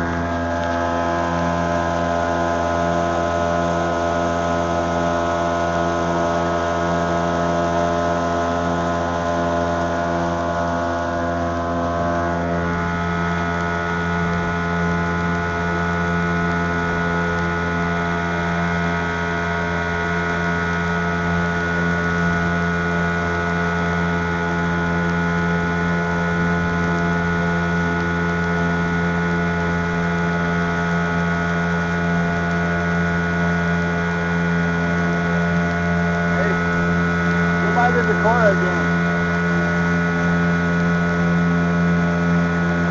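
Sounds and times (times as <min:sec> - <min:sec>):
small boat motor running: 0:00.0 - 0:42.9.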